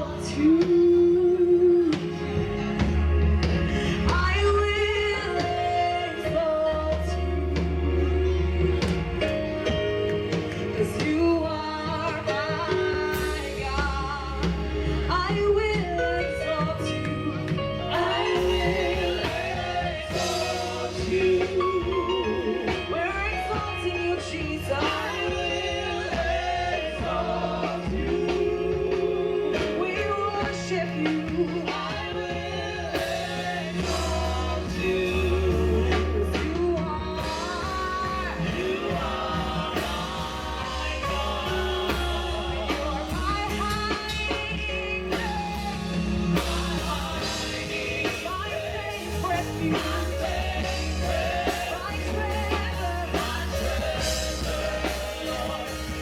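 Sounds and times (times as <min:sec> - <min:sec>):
bass guitar: 0:00.0 - 0:56.0
drums: 0:00.0 - 0:56.0
keyboard or guitar: 0:00.0 - 0:56.0
praise team singing: 0:00.0 - 0:56.0.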